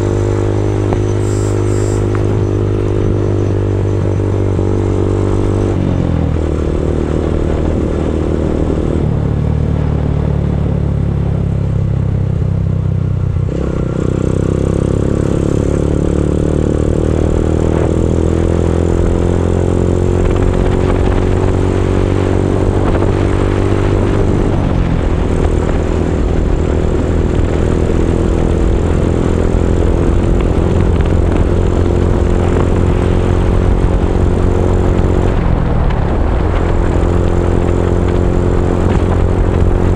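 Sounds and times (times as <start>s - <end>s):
loud motorcycle engine roar: 0.0s - 39.9s.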